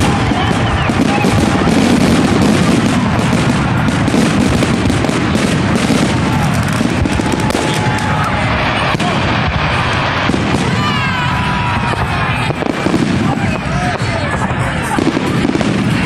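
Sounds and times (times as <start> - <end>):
fireworks rapid crackling: 0.0 - 16.0
fireworks shells bursting: 0.0 - 16.0.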